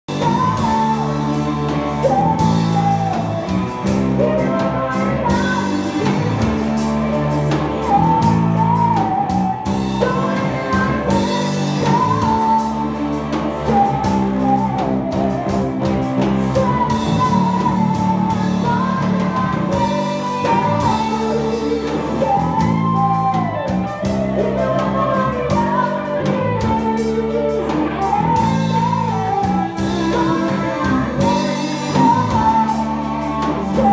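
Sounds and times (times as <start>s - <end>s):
live rock band playing: 0.0s - 33.9s
person singing: 0.0s - 33.9s.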